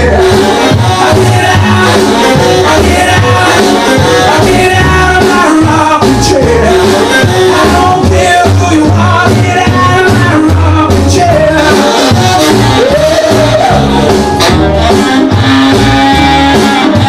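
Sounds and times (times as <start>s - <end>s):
rock and roll song playing: 0.0s - 17.0s.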